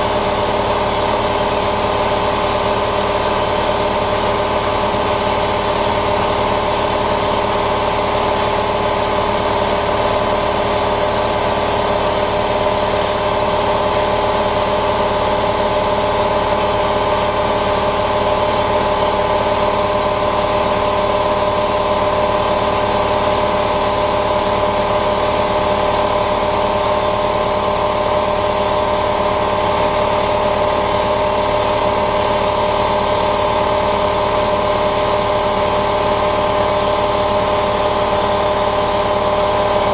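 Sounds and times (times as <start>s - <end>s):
paint sprayer hissing: 0.0s - 39.9s.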